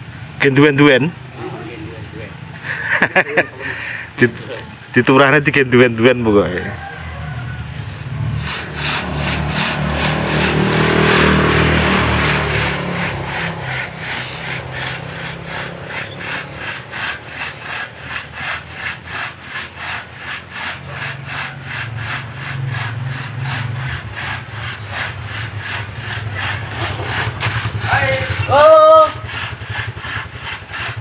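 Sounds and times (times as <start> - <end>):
hand saw rasping through wood: 1.4 - 4.6, 6.5 - 31.0.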